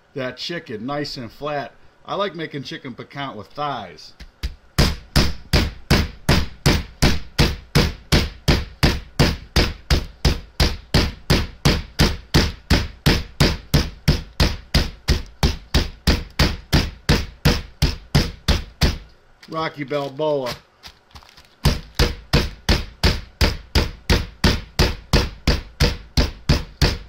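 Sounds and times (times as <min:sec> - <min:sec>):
fist pounding meat in plastic bag: 0:04.2 - 0:27.0.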